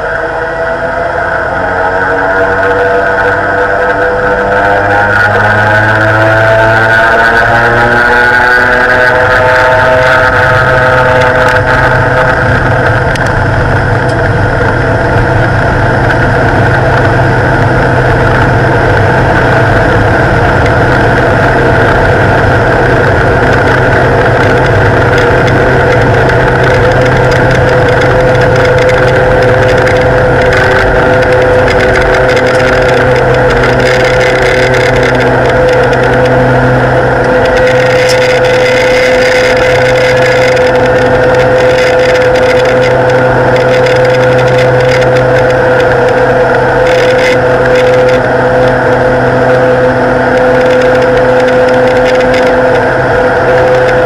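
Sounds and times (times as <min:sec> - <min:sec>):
turboprop engines droning: 0:00.0 - 0:54.0.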